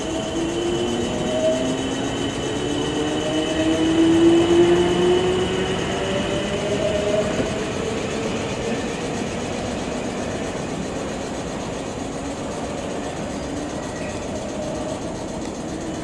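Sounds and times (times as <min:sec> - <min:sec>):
train motor whine: 0:00.0 - 0:16.0
wheel and track rumble: 0:00.0 - 0:16.0.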